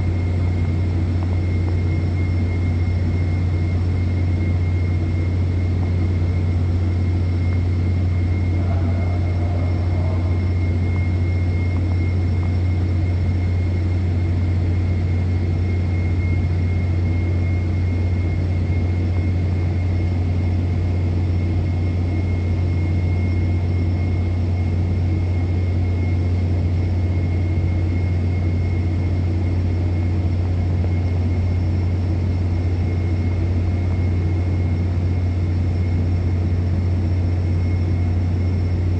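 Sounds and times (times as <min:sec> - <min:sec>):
high-pitched whine: 0:00.0 - 0:38.9
low machinery drone: 0:00.0 - 0:38.9.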